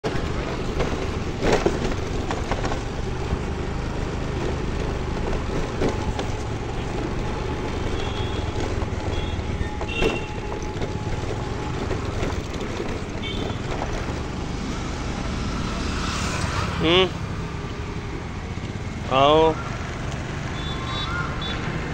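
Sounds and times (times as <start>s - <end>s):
road and wind noise: 0.0s - 21.9s
small scooter engine running: 0.0s - 21.9s.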